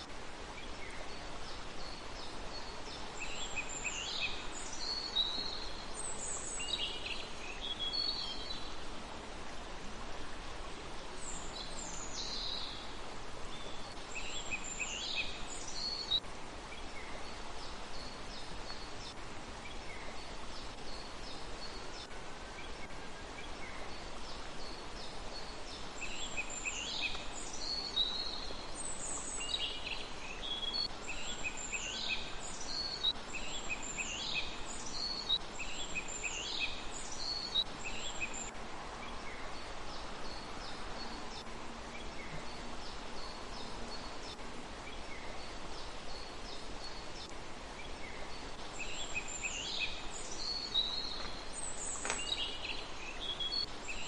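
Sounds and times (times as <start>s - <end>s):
songbirds twittering: 0.0s - 54.0s
steady background hiss: 0.0s - 54.0s.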